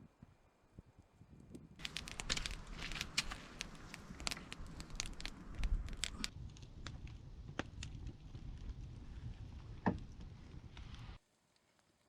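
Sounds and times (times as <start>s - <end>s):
wind rumble on microphone: 0.0s - 11.2s.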